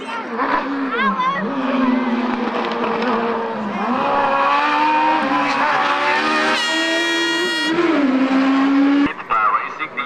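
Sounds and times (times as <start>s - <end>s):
racing engine accelerating hard: 0.2s - 9.4s.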